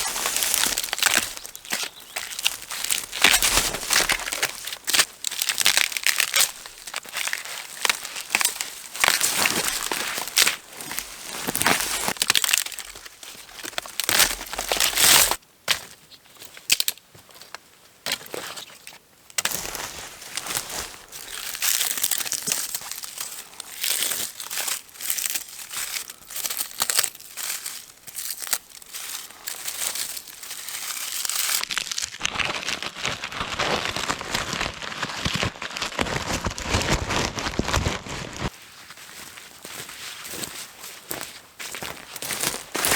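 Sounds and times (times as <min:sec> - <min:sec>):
dry material crinkling and rustling: 0:00.0 - 0:15.4, 0:16.7 - 0:42.9.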